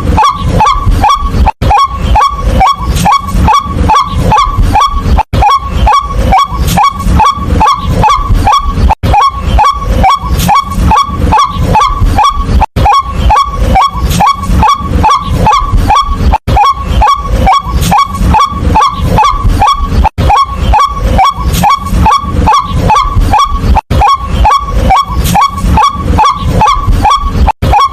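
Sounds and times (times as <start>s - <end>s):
waterhen calling kwak notes: 0.0s - 27.9s.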